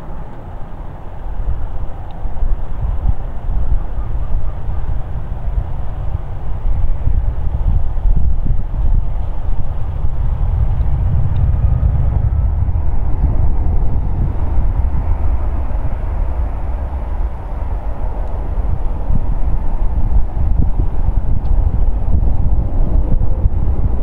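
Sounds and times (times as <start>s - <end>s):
airplane landing rumble: 0.0s - 24.0s.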